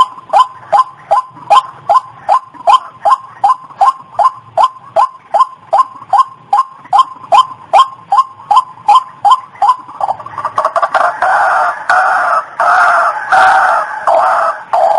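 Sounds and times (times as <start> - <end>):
waterhen calling: 0.0 - 14.9.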